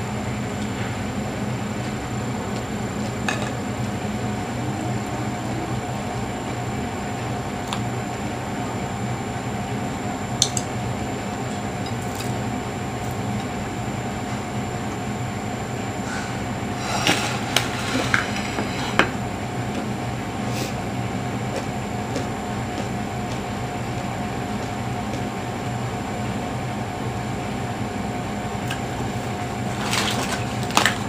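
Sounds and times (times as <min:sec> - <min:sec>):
electric fan hum: 0:00.0 - 0:31.0.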